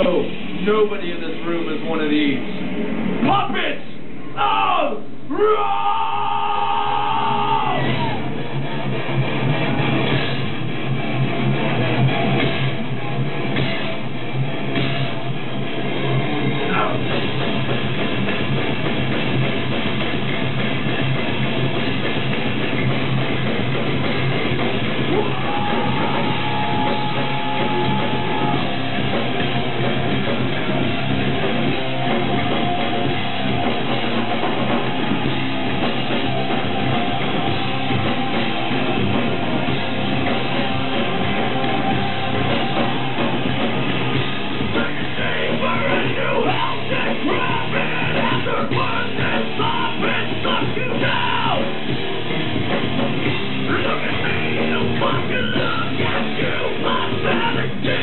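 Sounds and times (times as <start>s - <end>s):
drum kit: 0.0s - 4.2s, 6.3s - 58.0s
distorted electric guitars: 0.0s - 4.4s, 5.0s - 58.0s.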